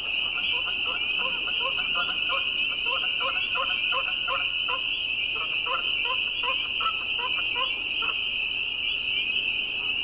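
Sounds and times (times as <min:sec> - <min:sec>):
frog low repeated calls: 0:00.0 - 0:10.0
frogs peeping chorus: 0:00.0 - 0:10.0.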